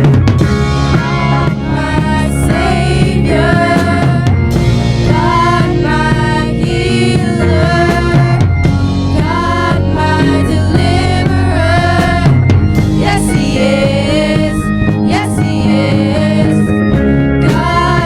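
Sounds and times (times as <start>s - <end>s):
band music: 0.0s - 18.0s
bending melody line: 0.0s - 18.0s.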